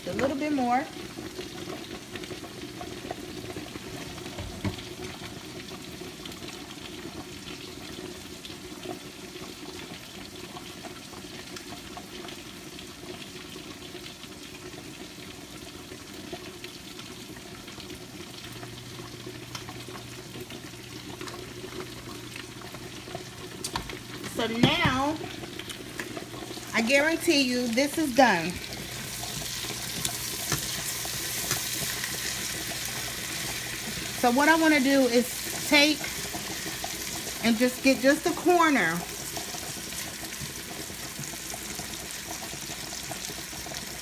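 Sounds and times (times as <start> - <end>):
cooking sizzle: 0.0 - 44.0.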